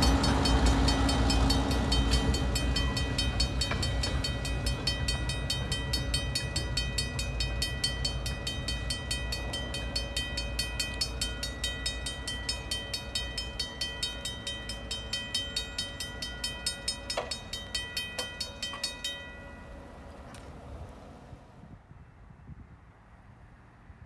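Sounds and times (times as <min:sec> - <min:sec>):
crossing warning bell ringing: 0:00.0 - 0:21.4
train rumble: 0:00.0 - 0:24.0.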